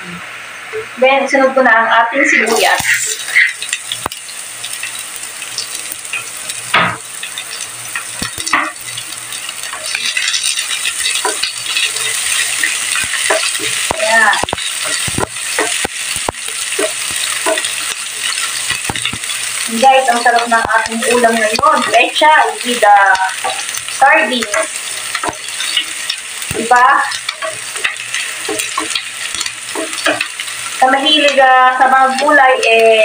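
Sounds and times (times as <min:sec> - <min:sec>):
onion and garlic sizzling in oil: 0:00.0 - 0:33.0
spoon knocking and scraping pan: 0:05.6 - 0:32.4.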